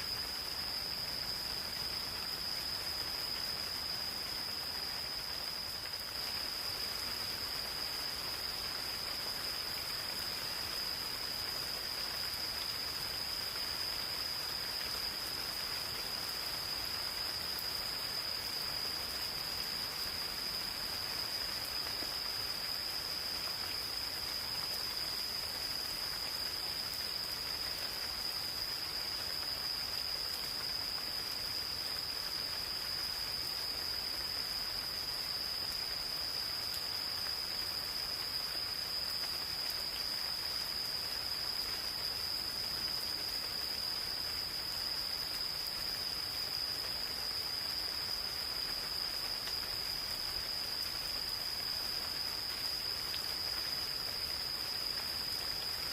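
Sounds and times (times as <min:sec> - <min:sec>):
gentle rain in forest: 0:00.0 - 0:55.9
insects trilling: 0:00.0 - 0:55.9.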